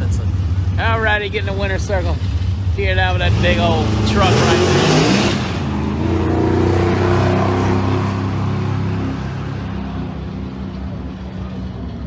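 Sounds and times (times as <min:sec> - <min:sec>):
truck engine moving off: 0:00.0 - 0:12.0.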